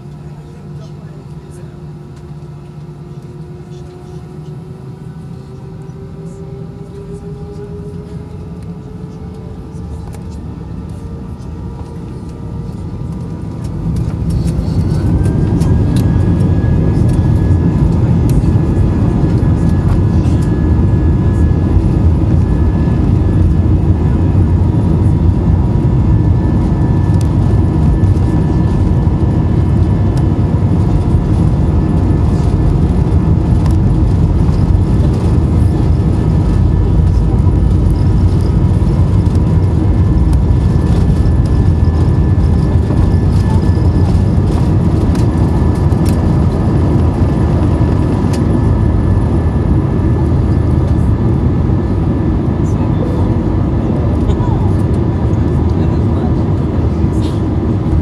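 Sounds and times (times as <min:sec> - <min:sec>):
loud steady rumble: 0:00.0 - 0:58.0.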